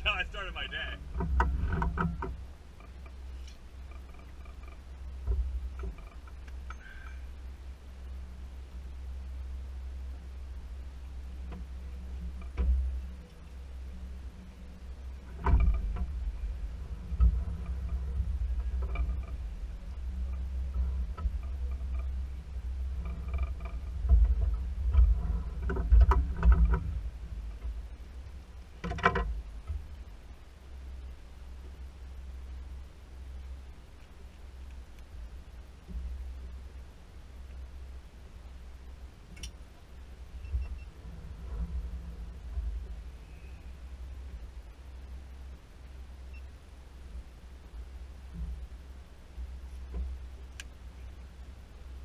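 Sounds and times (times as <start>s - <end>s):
boat motor rumbling: 0.0s - 52.0s.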